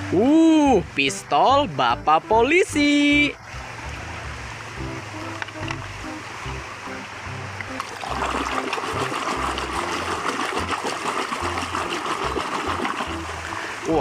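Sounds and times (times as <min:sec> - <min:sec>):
water splashing and rushing: 0:00.0 - 0:01.8, 0:02.7 - 0:14.0.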